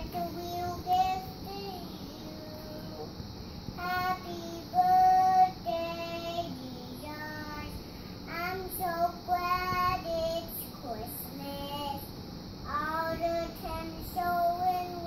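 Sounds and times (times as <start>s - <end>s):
boy singing unaccompanied: 0.0s - 3.1s, 3.8s - 12.0s, 12.7s - 15.0s.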